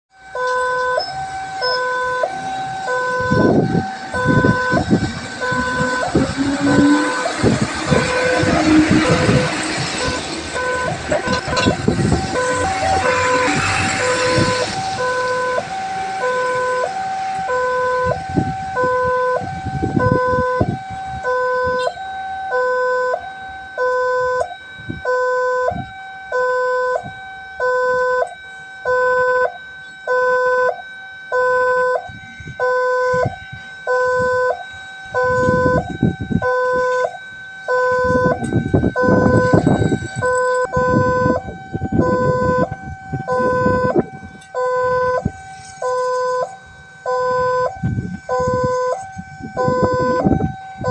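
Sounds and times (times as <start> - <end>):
constant high tone: 0.1 - 50.9
two-tone crossing alarm: 0.1 - 50.9.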